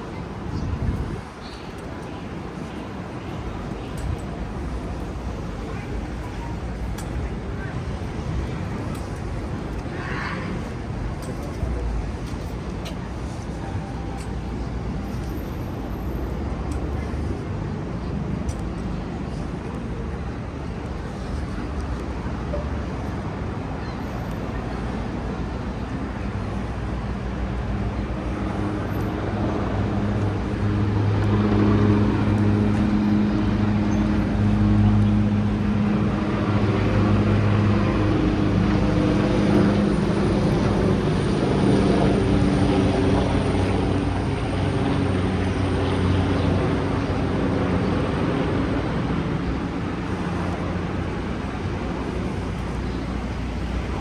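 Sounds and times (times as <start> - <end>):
city traffic noise: 0.0 - 54.0.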